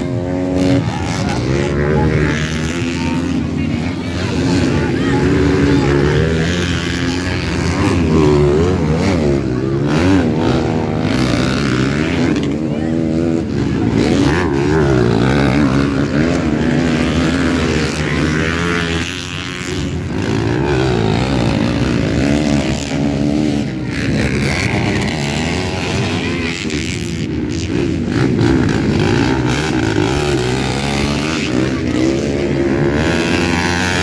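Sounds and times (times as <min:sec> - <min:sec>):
motocross bikes revving past: 0:00.0 - 0:34.0.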